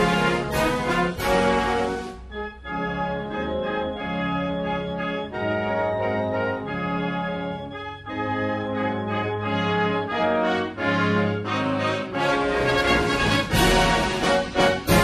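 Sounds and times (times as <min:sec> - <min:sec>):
brass band slow chords: 0:00.0 - 0:15.0.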